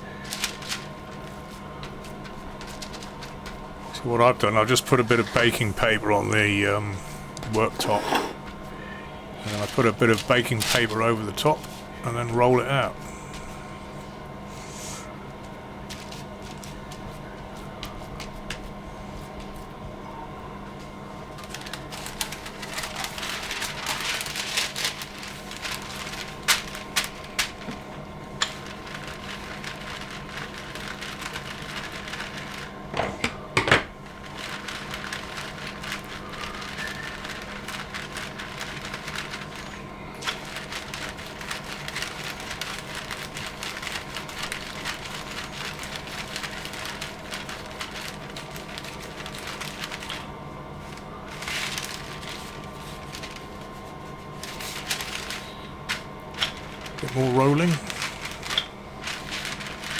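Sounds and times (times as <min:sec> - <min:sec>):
baking paper crinkling: 0:00.0 - 0:15.1, 0:15.7 - 0:19.7, 0:21.0 - 0:32.9, 0:34.0 - 0:59.9
faint steady hum: 0:00.0 - 0:59.9.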